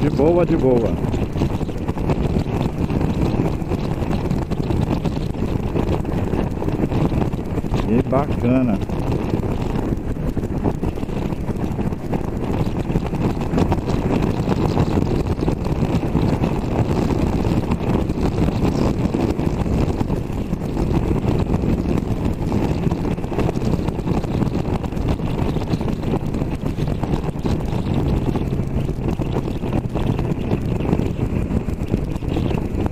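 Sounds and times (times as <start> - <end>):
motorcycle engine cruising: 0.0 - 32.9
wind rushing over microphone: 0.0 - 32.9.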